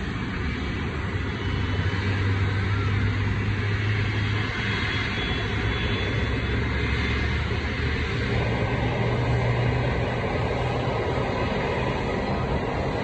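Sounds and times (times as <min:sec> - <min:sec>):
aircraft engine hum and rush: 0:00.0 - 0:13.0.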